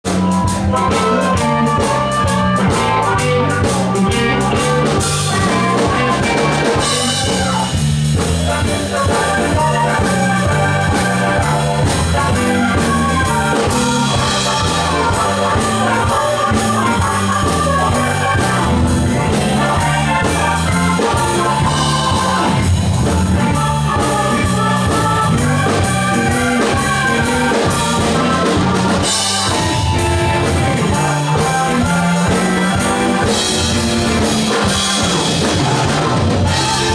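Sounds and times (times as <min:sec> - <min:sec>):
bass line: 0:00.0 - 0:36.9
drum kit with cymbals: 0:00.0 - 0:36.9
electric guitar: 0:00.0 - 0:36.9
harmonica playing lead: 0:00.1 - 0:36.9.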